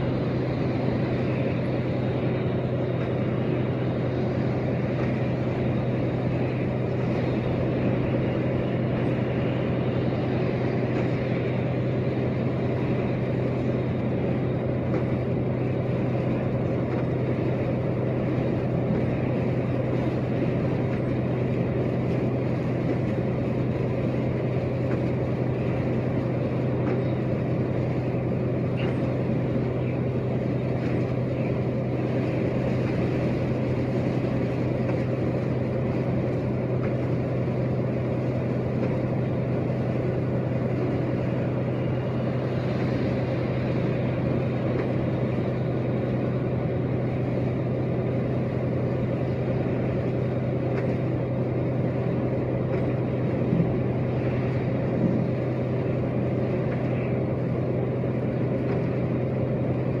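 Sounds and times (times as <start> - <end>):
truck engine drone: 0.0 - 60.0.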